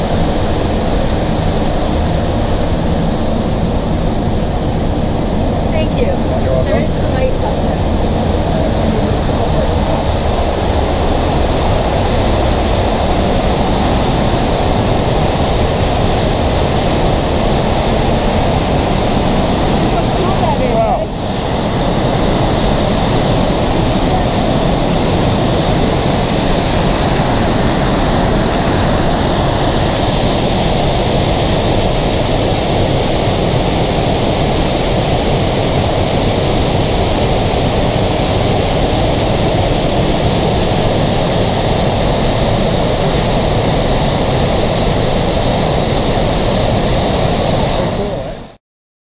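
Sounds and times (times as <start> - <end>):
waterfall rushing: 0.0 - 48.6.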